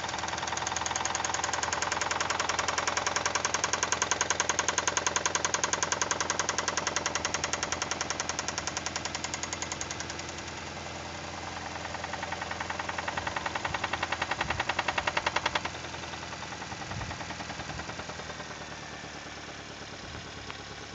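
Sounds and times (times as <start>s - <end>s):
engine running with metallic knock: 0.0s - 20.9s.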